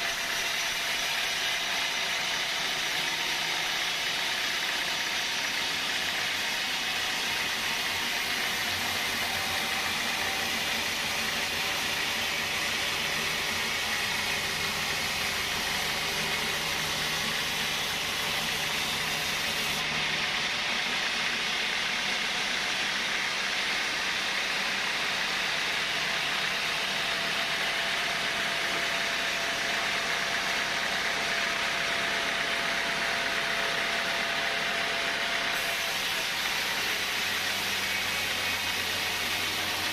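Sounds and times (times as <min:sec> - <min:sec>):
sawmill saw whirring: 0:00.0 - 0:39.9.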